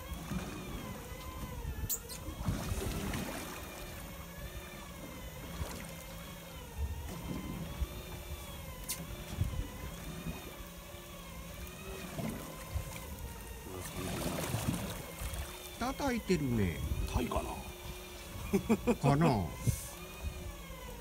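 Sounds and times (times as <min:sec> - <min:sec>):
fishing reel motor whine: 0:00.0 - 0:21.0
low boat rumble: 0:00.0 - 0:21.0
water noise: 0:00.0 - 0:21.0.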